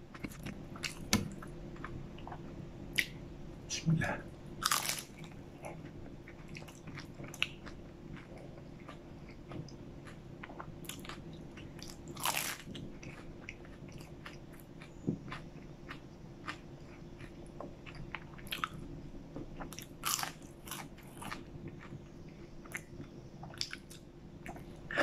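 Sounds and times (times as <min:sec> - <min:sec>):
crackly chewing: 0:00.0 - 0:03.2, 0:04.6 - 0:24.9.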